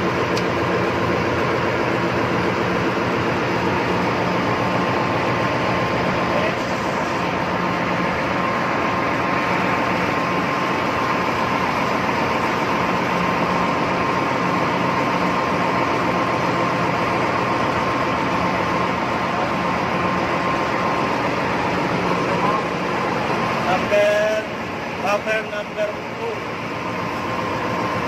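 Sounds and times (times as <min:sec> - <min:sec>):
ship engine room machinery: 0:00.0 - 0:28.0.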